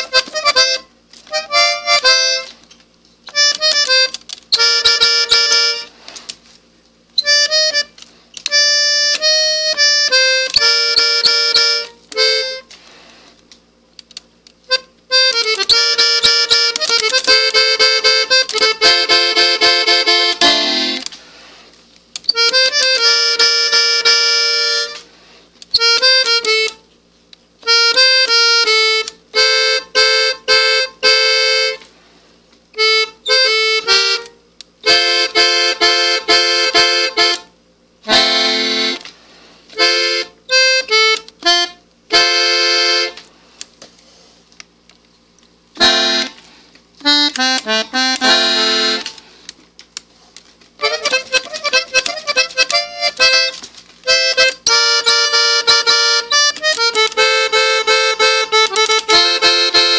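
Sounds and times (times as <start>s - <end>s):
button accordion melody: 0.0s - 6.4s, 7.1s - 32.1s, 32.7s - 44.4s, 45.5s - 50.0s, 50.7s - 59.9s.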